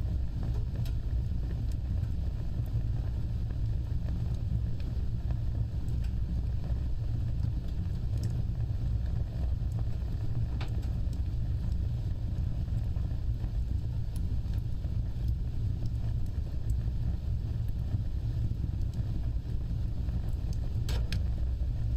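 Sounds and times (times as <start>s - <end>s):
fire crackling and popping: 0.0s - 21.9s
wood fire burning: 0.0s - 21.9s.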